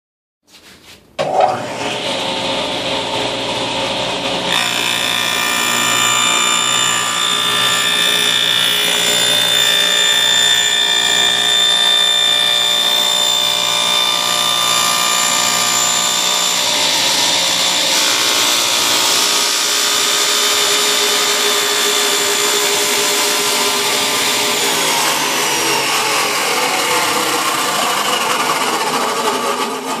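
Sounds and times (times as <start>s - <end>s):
table saw cutting with loud whine: 1.2s - 30.0s.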